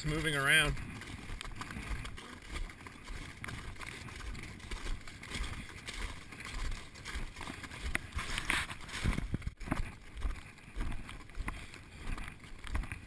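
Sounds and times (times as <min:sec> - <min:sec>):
footsteps crunching on ice: 0:00.0 - 0:13.0
wind rumbling on microphone: 0:00.0 - 0:13.0.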